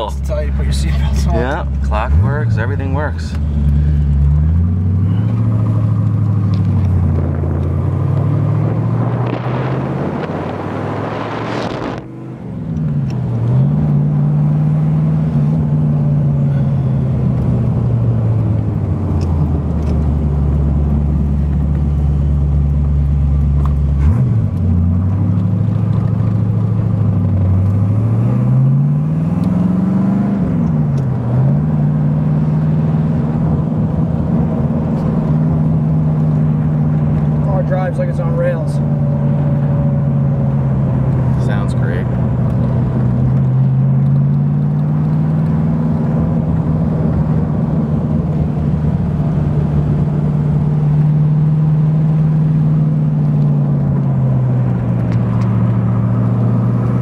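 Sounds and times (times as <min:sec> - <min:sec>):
car engine revving while driving: 0:00.0 - 0:57.0.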